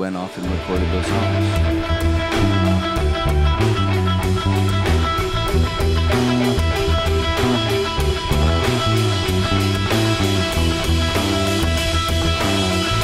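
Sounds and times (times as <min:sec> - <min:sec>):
drum kit: 0:00.0 - 0:13.0
electric bass: 0:00.0 - 0:13.0
guitar: 0:00.0 - 0:13.0.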